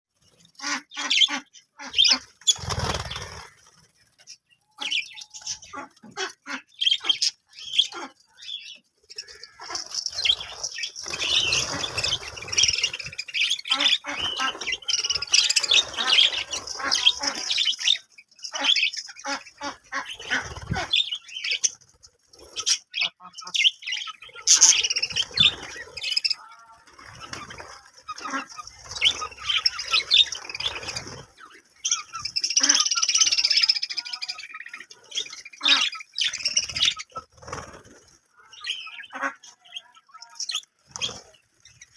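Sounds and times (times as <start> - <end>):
budgerigars chirping: 0.4 - 21.8, 22.5 - 26.5, 28.0 - 37.4.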